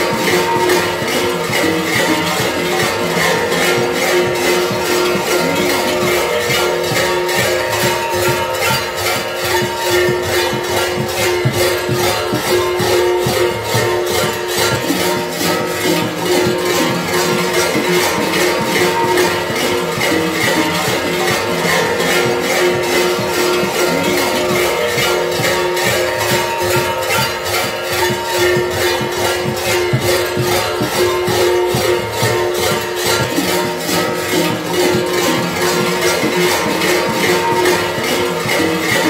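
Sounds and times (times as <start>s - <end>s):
bells clanging: 0.0s - 39.0s.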